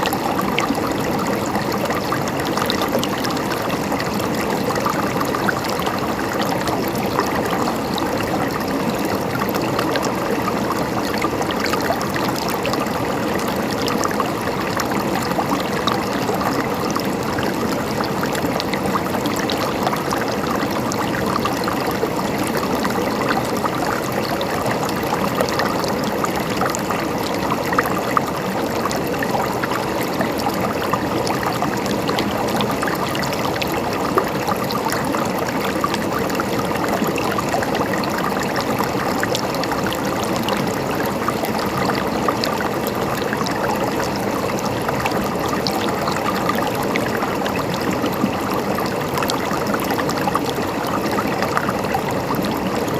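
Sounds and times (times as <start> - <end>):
river water flowing: 0.0 - 52.9.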